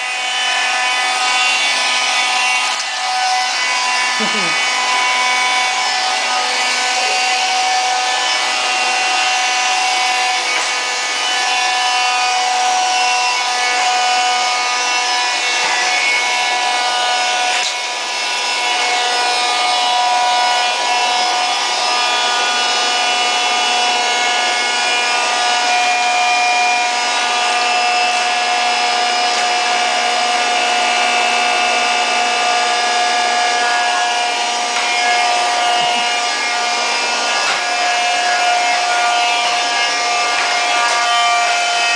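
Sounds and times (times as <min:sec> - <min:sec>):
cordless vacuum whining: 0:00.0 - 0:41.9.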